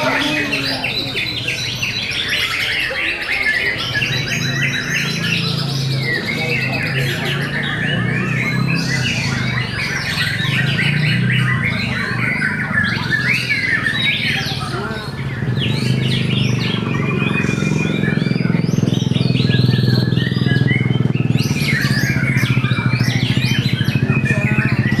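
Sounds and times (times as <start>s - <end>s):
songbirds whistling and trilling: 0.0s - 25.0s.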